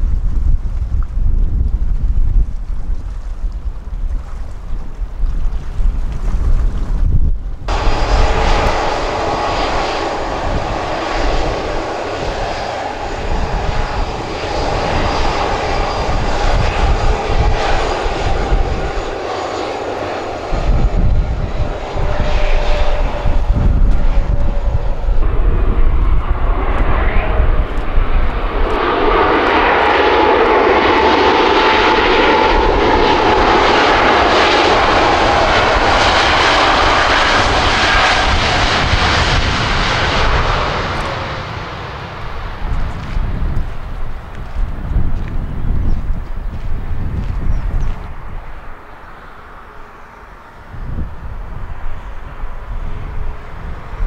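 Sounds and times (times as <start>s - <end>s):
jet engines whining and rumbling: 6.0s - 54.0s.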